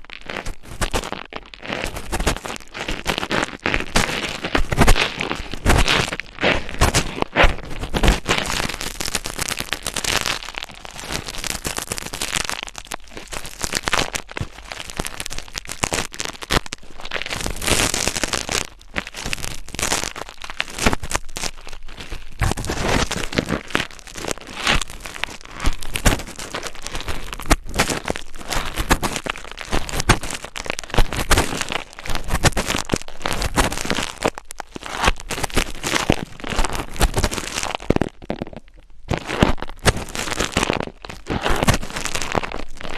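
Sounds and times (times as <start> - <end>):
close-miked scratching and crackling: 0.0 - 42.9.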